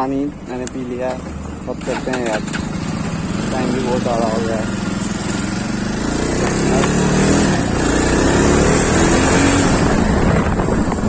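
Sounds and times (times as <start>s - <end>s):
motorcycle engine accelerating: 0.0s - 11.0s
road noise: 0.0s - 11.0s.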